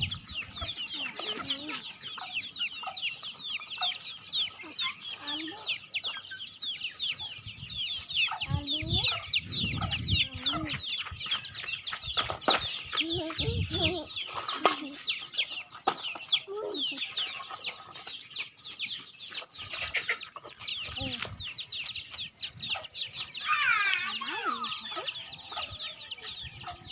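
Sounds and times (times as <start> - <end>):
chickens clucking: 0.0 - 26.9
chicks peeping: 0.0 - 26.9.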